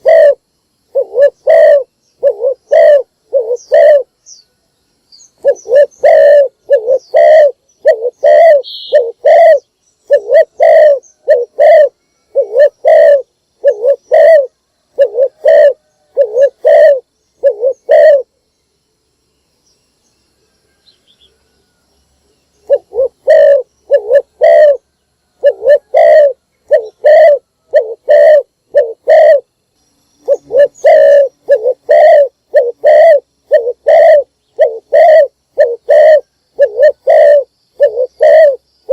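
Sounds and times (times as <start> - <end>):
dove cooing: 0.0 - 4.2, 5.4 - 18.4, 22.6 - 29.5, 30.2 - 38.9.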